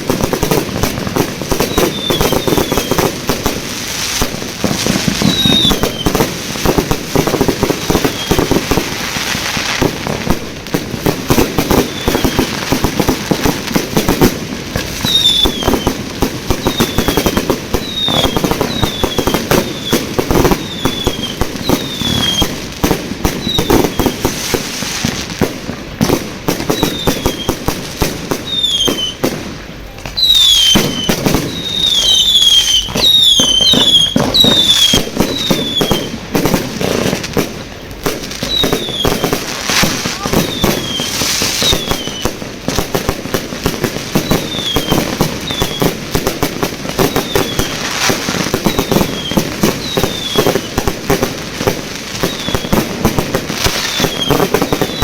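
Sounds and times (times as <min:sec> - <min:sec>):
falling firework whistles: 0:00.0 - 0:29.4, 0:30.0 - 0:37.4, 0:38.1 - 0:55.0
fireworks bangs and crackles: 0:00.0 - 0:55.0.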